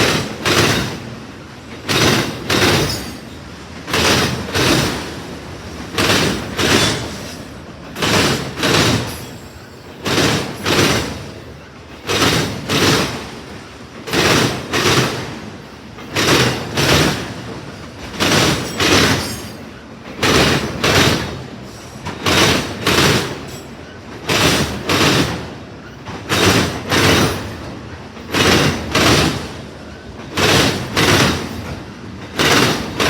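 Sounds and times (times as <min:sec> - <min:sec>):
train wheels clacking over rail joint: 0:00.0 - 0:33.0.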